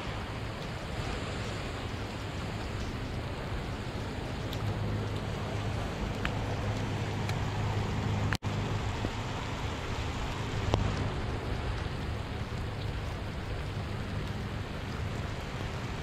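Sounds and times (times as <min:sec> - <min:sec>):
rain falling on boat and lake: 0:00.0 - 0:16.0.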